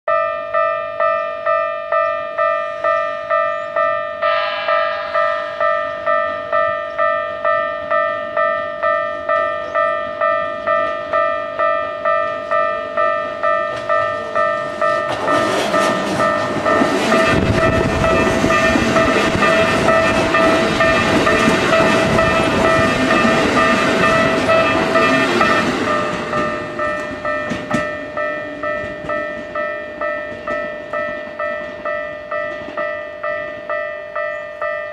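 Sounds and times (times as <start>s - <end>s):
electric train passing: 0.1s - 34.9s
level crossing warning bell: 0.1s - 34.9s.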